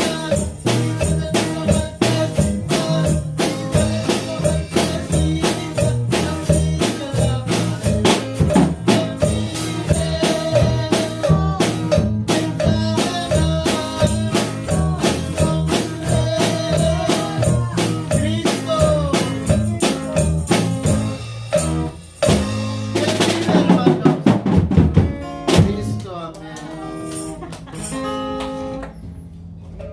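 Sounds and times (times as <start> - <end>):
drum kit beat: 0.0 - 28.6
band playing upbeat instrumental: 0.0 - 28.9.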